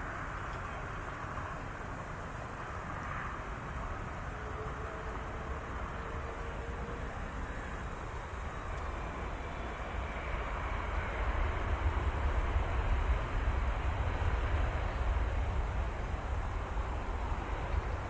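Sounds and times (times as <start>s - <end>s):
distant rumble of aircraft engines: 0.0s - 18.0s.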